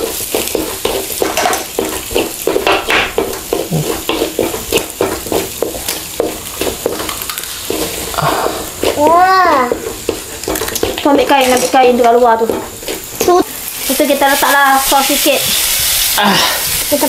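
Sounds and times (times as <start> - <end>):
sausages sizzling in oil: 0.0 - 17.0
wooden spatula scraping a pan: 0.0 - 17.0.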